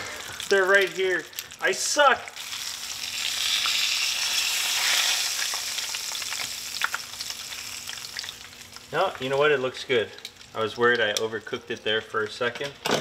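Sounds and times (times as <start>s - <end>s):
fish sizzling in hot oil: 0.0s - 12.4s.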